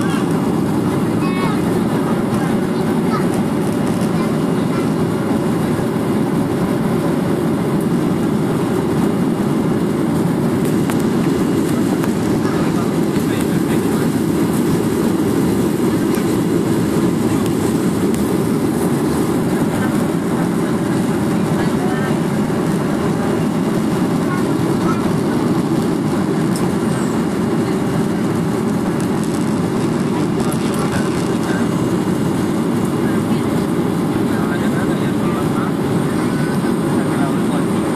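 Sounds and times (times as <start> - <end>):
airliner engines rumbling in cabin: 0.0 - 37.9.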